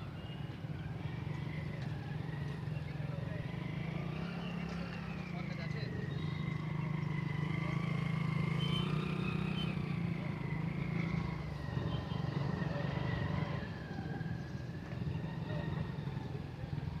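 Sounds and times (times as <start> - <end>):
small motorcycle engine: 1.3 - 17.0.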